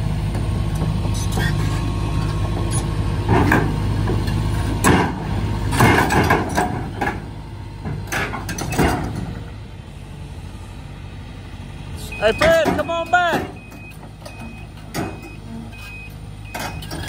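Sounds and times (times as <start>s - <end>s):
diesel engine running: 0.0s - 17.0s
steel tracks clanking on trailer: 0.3s - 9.5s, 12.1s - 17.0s.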